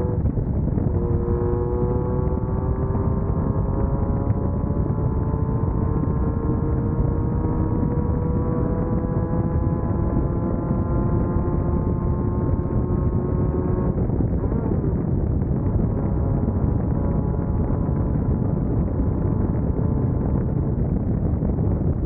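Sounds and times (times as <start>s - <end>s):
buggy engine running hard: 0.0s - 22.0s.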